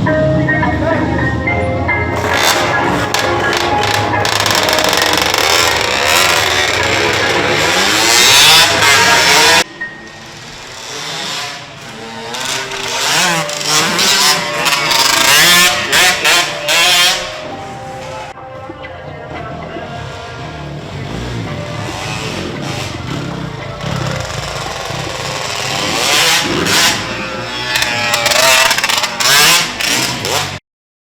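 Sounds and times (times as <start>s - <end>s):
motorcycle engines revving: 0.0s - 18.4s, 19.3s - 30.6s.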